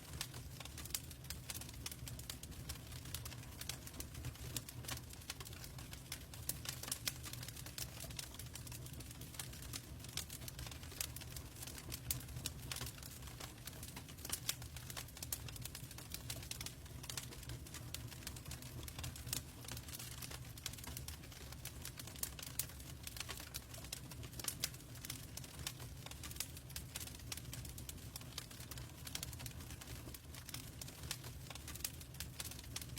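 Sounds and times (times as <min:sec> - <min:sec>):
log fire crackling: 0:00.0 - 0:32.9.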